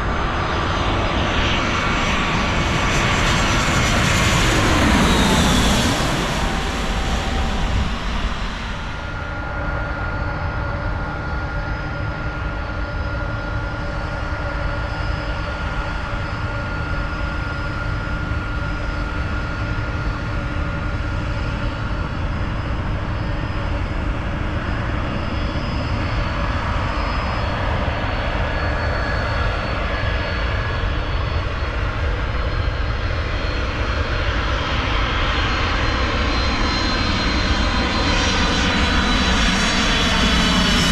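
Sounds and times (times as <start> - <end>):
high engine whine: 0.0 - 40.9
jet airliner passing overhead: 0.0 - 40.9.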